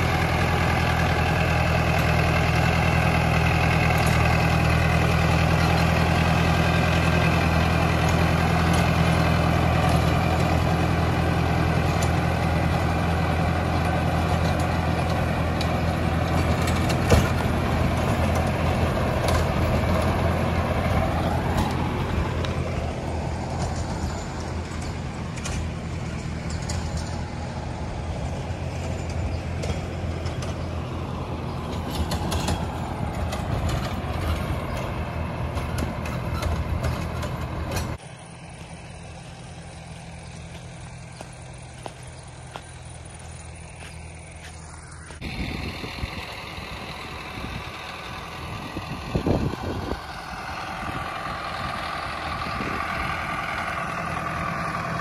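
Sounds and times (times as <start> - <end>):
tractor engine running under load: 0.0 - 55.0.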